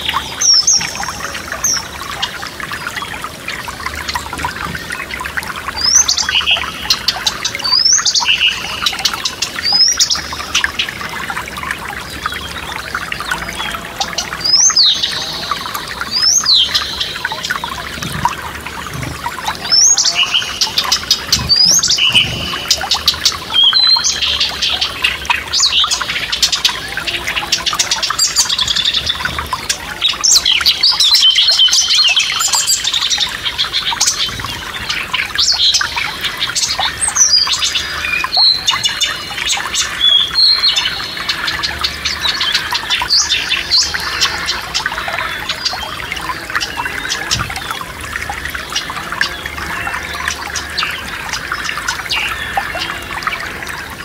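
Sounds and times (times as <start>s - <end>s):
forest stream rushing: 0.0s - 54.0s
songbirds chirping and whistling: 0.0s - 54.0s.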